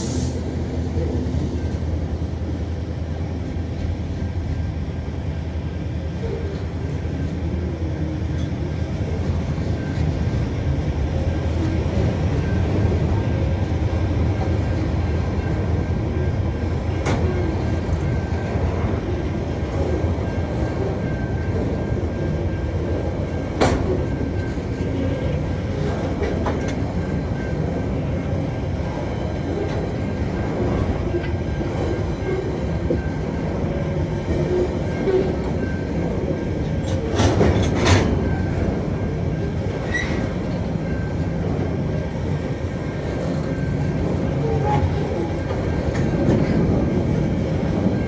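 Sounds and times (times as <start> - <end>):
freight wagons rumbling on rails: 0.0 - 48.0.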